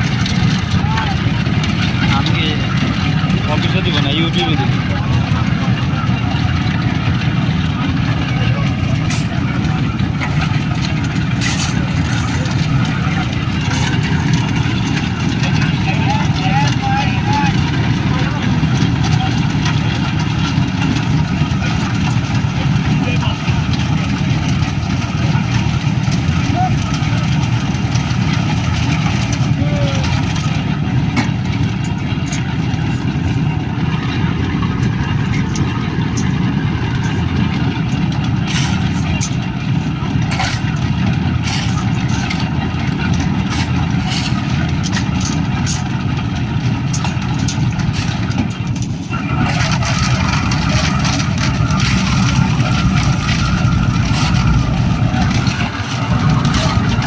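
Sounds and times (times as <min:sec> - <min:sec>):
engine rumbling: 0:00.0 - 0:57.0
sharp knocks and clanks: 0:00.0 - 0:57.0.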